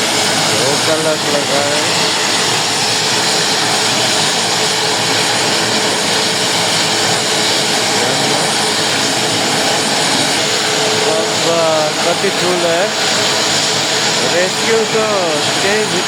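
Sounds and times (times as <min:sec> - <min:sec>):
helicopter engines and rotor: 0:00.0 - 0:16.0.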